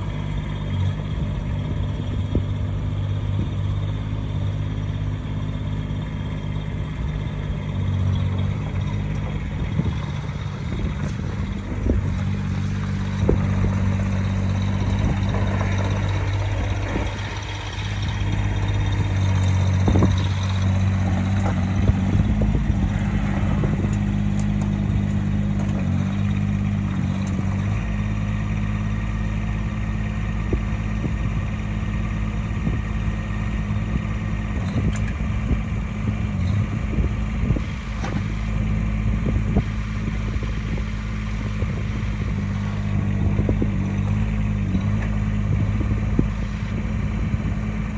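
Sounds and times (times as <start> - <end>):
diesel engine under hydraulic load: 0.0 - 47.9.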